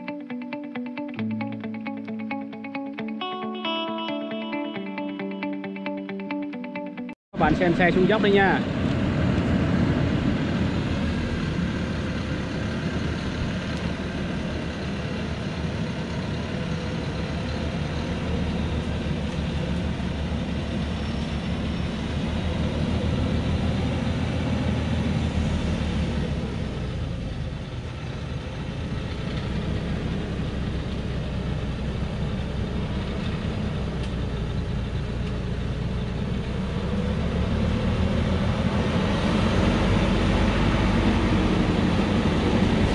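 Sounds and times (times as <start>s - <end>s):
diesel truck engine in low gear: 7.4s - 42.9s.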